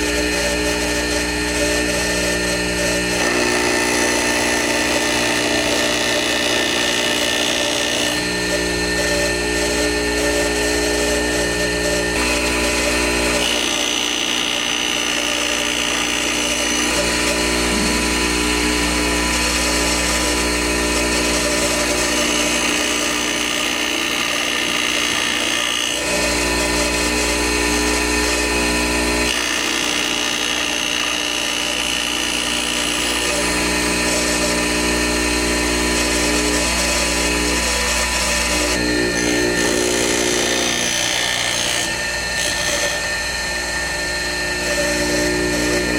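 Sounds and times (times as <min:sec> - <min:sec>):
surface grinder motor hum and whine: 0:00.0 - 0:45.9.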